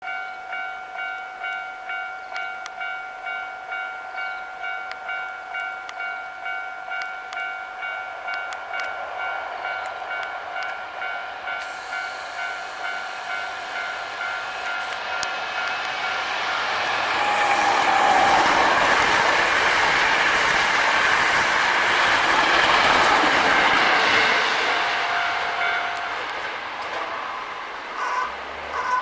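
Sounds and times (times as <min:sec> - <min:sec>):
level-crossing warning bell: 0:00.0 - 0:20.5, 0:22.4 - 0:29.0
train running: 0:00.4 - 0:29.0.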